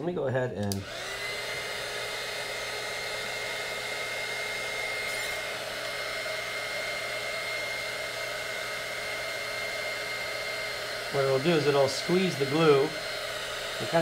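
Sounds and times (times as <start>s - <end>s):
heat gun blowing: 0.6s - 14.0s.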